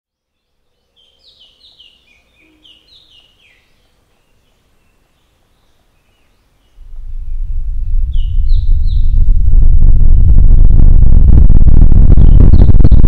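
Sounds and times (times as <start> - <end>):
faint background noise: 0.1 - 12.9.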